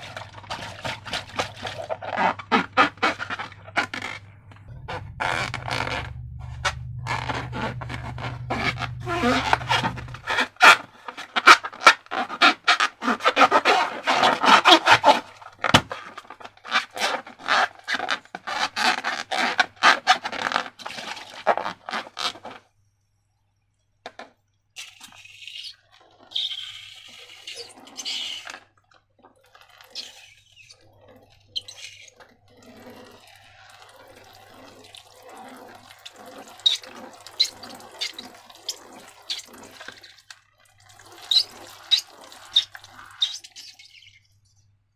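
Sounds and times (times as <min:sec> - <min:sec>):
wet slime squelching: 0:00.0 - 0:22.6, 0:24.8 - 0:44.6.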